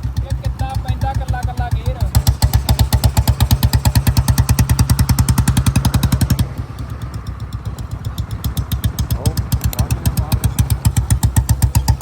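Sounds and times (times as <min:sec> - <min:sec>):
single-cylinder motorcycle engine thumping: 0:00.0 - 0:12.0.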